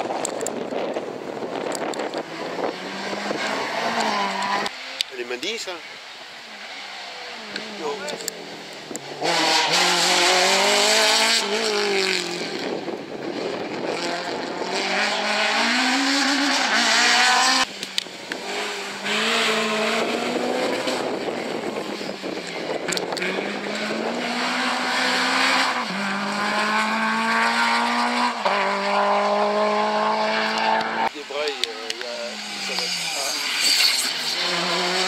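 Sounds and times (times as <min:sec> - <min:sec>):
rally cars passing at full throttle: 0:00.0 - 0:35.0.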